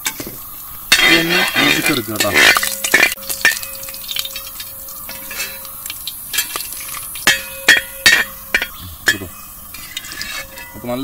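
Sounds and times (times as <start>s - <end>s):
metal skimmer scraping pan: 0.0s - 11.0s
spices sizzling in hot oil: 0.0s - 11.0s.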